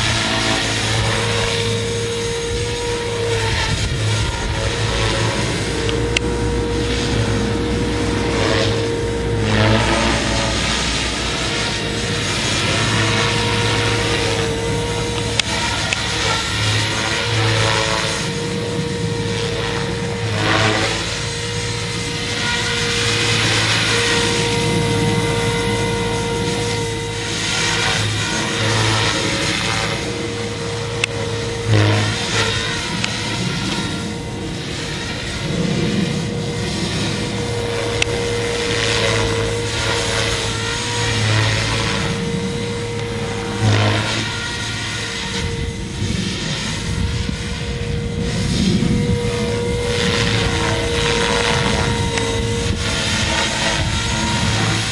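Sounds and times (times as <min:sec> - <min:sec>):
model helicopter rotor whine: 0:00.0 - 0:54.9.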